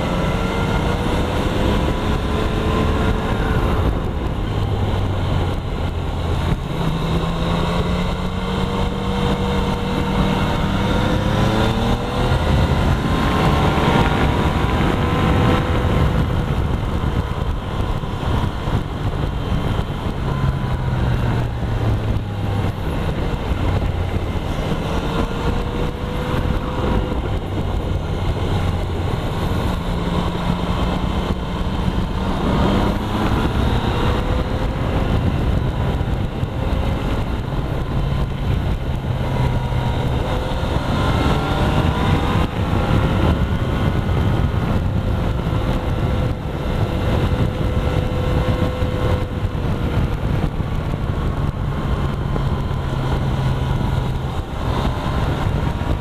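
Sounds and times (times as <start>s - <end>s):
motorcycle engine running: 0.0s - 56.0s
steady rush of noise: 0.0s - 56.0s.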